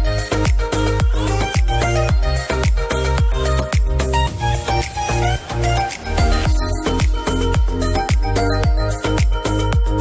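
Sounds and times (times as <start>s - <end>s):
steady kick drum beat: 0.0s - 4.0s, 5.9s - 10.0s
electronic dance music: 0.0s - 10.0s.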